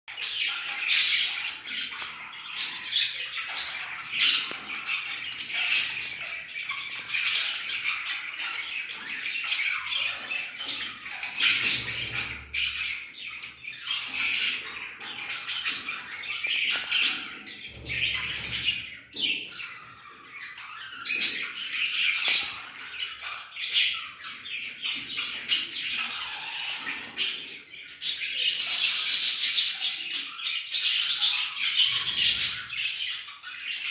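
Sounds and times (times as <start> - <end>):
budgerigars chattering and chirping: 0.1 - 33.9.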